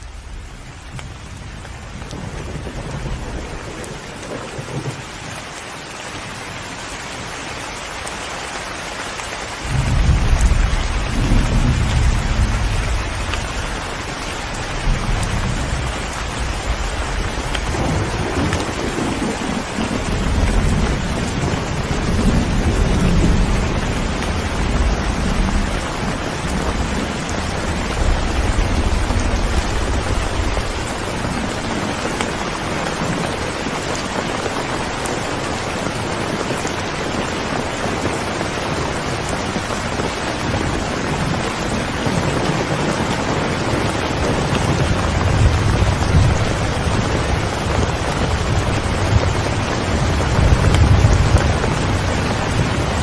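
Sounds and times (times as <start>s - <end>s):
low rumble of thunder: 0.0s - 5.4s, 9.6s - 35.0s, 35.6s - 53.0s
steady rain: 0.0s - 53.0s.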